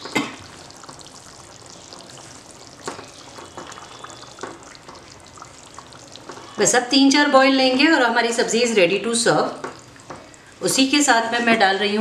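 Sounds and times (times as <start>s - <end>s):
gravy simmering: 0.0s - 11.8s.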